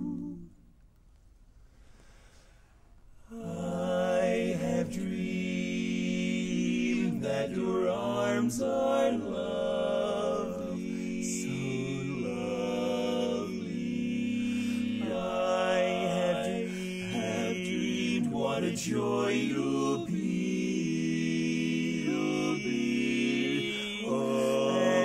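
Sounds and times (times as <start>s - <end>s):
male quartet singing a cappella: 0.0s - 0.6s, 3.3s - 25.0s.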